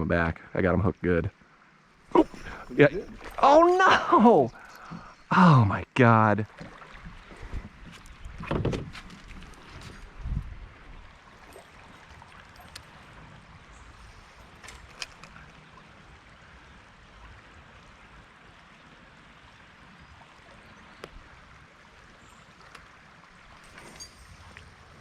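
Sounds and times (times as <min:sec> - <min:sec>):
river water trickling: 0:00.6 - 0:25.0.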